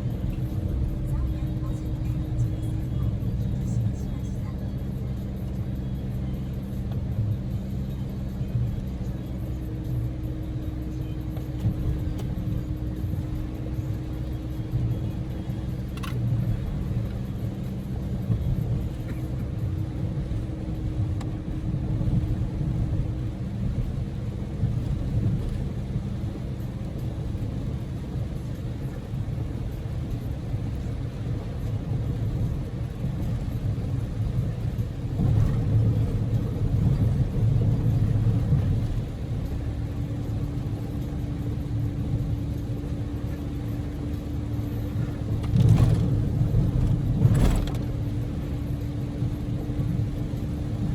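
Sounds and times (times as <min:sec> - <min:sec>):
car cabin road and engine rumble: 0:00.0 - 0:50.9.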